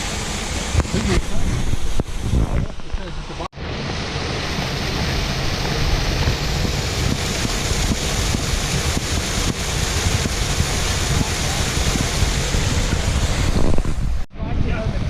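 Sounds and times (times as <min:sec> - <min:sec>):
waterfall rushing into pool: 0:00.0 - 0:14.3
wind buffeting microphone: 0:00.6 - 0:03.0, 0:03.9 - 0:15.0.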